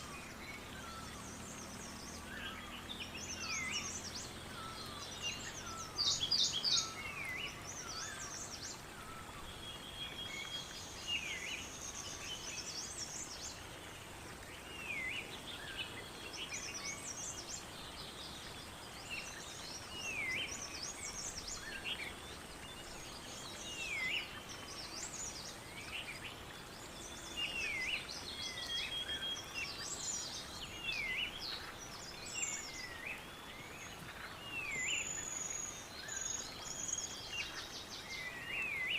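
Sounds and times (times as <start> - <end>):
birds trilling and chirping: 0.0 - 38.9
steady background hiss: 0.0 - 38.9.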